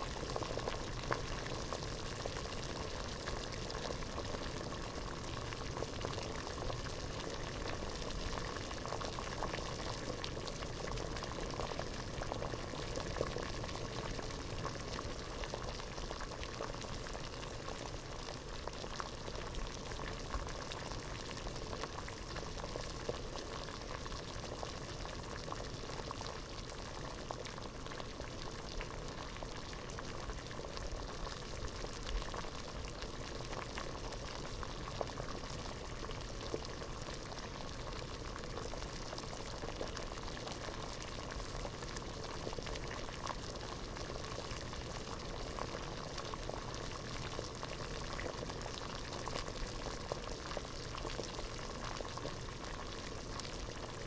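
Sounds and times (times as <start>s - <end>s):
water boiling in a pot: 0.0s - 54.0s.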